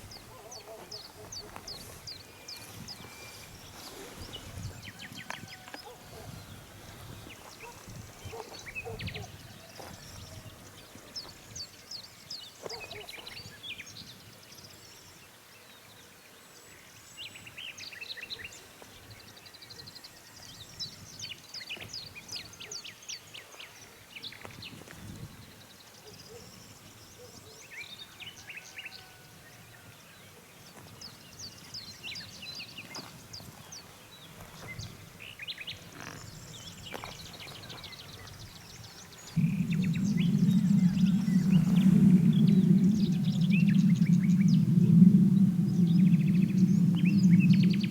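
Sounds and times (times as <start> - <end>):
songbirds chirping and trilling: 0.0 - 24.8, 25.6 - 47.9.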